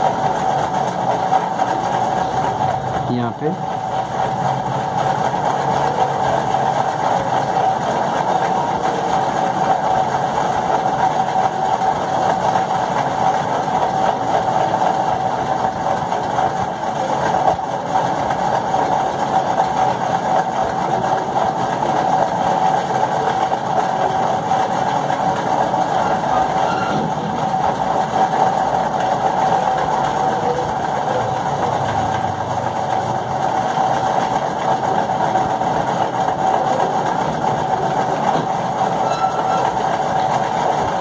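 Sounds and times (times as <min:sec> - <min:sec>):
steady machine hum: 0:00.0 - 0:41.0.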